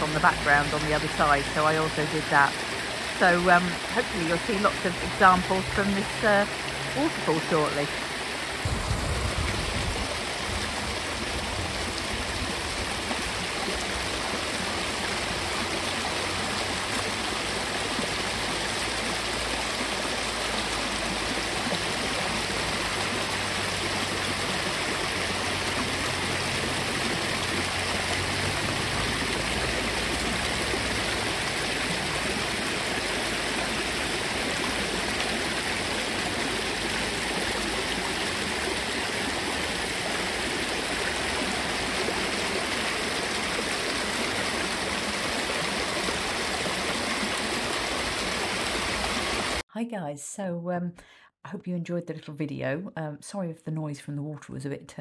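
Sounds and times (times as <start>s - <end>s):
waterfall rushing over rocks: 0.0s - 49.6s.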